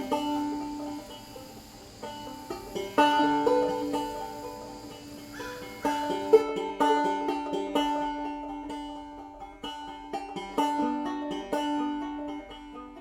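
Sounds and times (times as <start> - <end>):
banjo bluegrass tune: 0.0 - 13.0.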